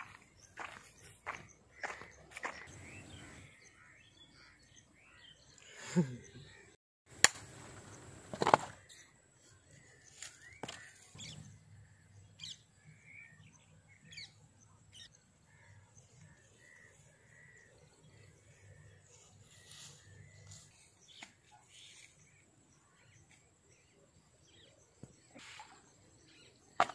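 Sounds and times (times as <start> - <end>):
birds chirping: 0.0 - 6.8, 7.6 - 26.9.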